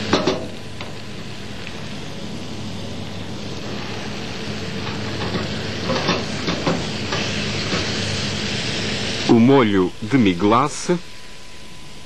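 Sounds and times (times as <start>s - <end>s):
food sizzling in frying pan: 0.0s - 11.6s.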